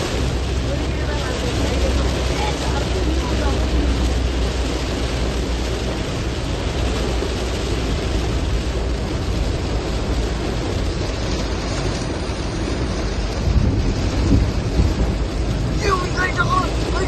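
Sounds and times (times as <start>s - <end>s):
heavy rain hissing: 0.0s - 17.0s
wind buffeting microphone: 0.0s - 17.0s.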